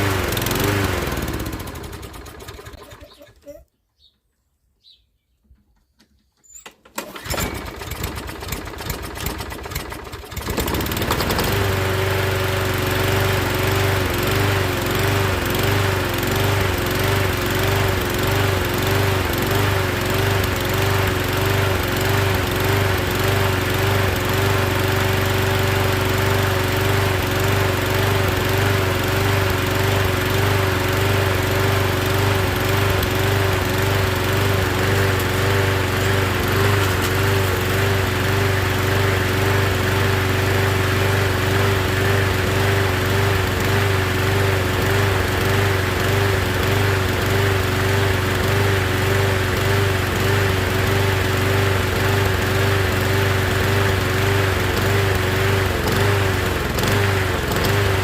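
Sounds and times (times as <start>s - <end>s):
lawn mower engine running: 0.0s - 3.5s, 6.5s - 58.0s.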